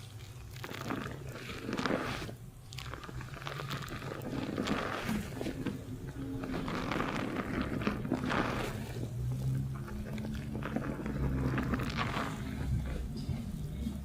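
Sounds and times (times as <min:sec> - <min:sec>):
fingers scrubbing lathered hair: 0:00.0 - 0:14.0
low hum: 0:00.0 - 0:14.0.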